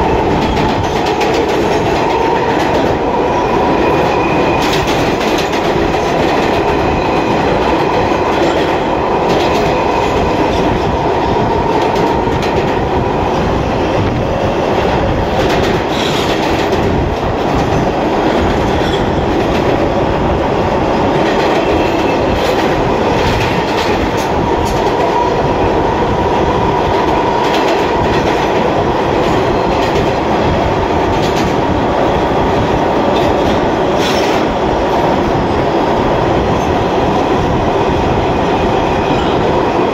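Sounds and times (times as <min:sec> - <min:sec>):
steel wheels rumbling on rails: 0:00.0 - 0:39.9.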